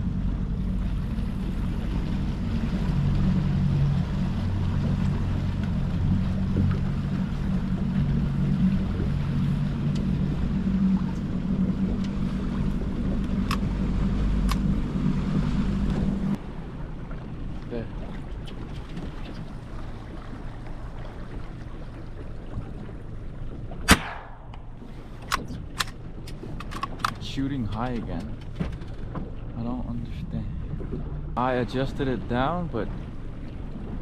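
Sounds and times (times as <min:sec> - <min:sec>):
boat motor humming: 0:00.0 - 0:34.0.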